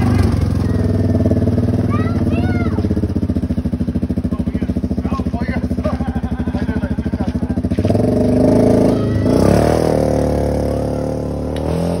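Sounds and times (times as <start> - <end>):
small engine idling and revving: 0.0 - 12.0.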